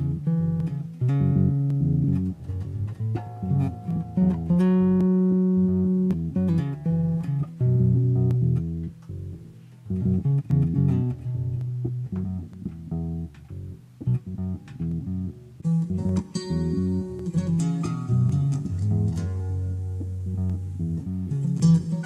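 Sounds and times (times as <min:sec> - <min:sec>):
electric bass plucked notes: 0:00.0 - 0:22.0.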